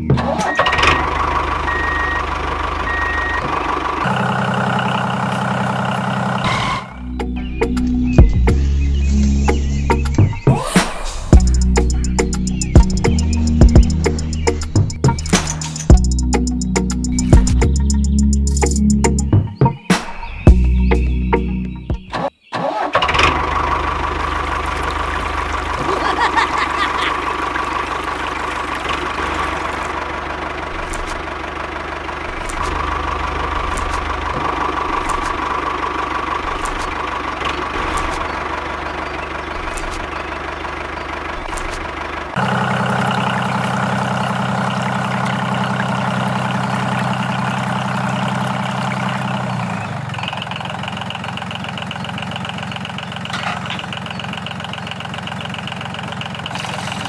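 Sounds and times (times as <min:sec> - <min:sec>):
small diesel engine idling: 0:00.0 - 0:10.4, 0:11.4 - 0:19.1, 0:22.7 - 0:57.0.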